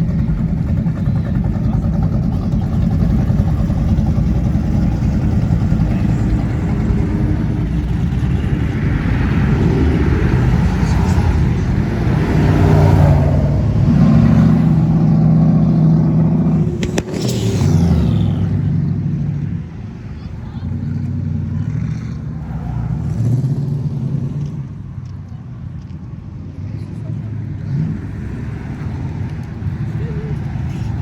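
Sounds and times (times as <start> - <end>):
car engines rumbling: 0.0 - 31.0
loud engine droning: 0.0 - 31.0.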